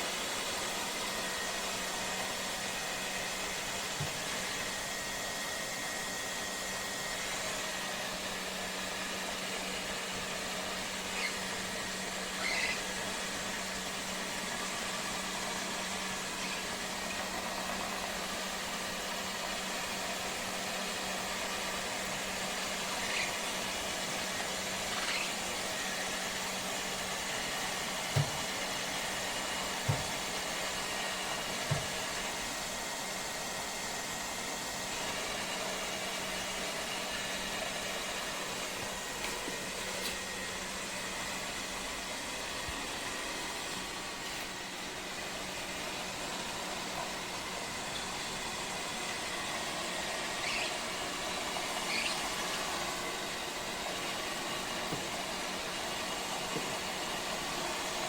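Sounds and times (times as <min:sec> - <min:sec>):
robot vacuum whirring: 0:00.0 - 0:58.0.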